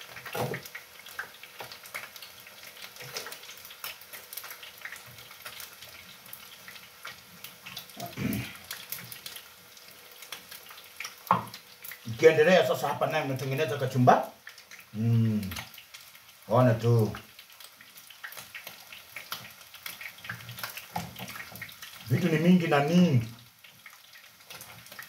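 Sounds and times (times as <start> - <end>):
faint stove hiss: 0.0 - 25.0.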